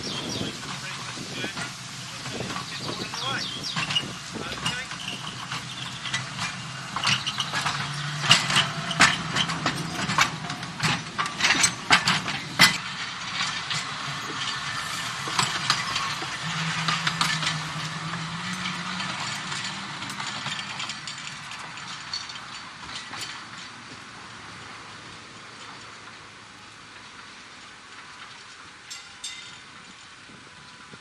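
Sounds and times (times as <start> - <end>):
tram motor humming: 0.0 - 28.1
tram wheels clicking and knocking: 0.0 - 31.0.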